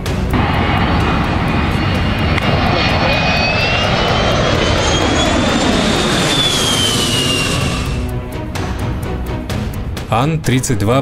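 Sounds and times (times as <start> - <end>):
jet plane flying low overhead: 0.0 - 10.1.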